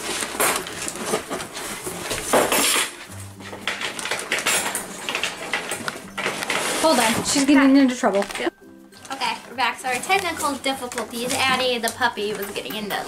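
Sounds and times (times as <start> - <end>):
paper and cardboard rustling: 0.0 - 13.0.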